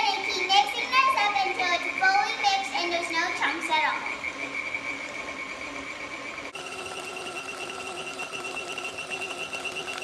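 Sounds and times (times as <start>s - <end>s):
electric mixer whining: 0.0s - 10.0s.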